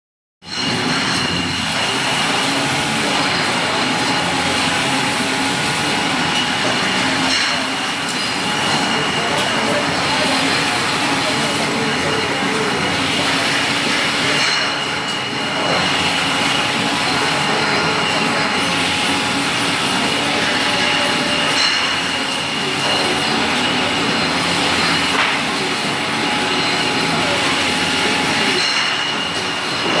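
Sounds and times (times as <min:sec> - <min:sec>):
conveyor machinery din: 0:00.4 - 0:30.0.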